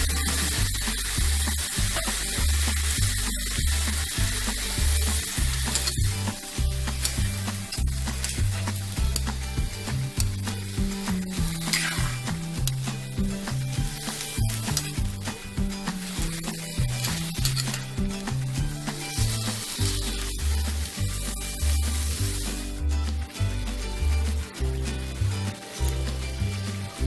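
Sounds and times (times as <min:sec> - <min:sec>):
spatula stirring in a pan: 0:00.0 - 0:22.8
background music with bass: 0:00.0 - 0:27.0
chicken sizzling in hot oil: 0:00.0 - 0:27.0.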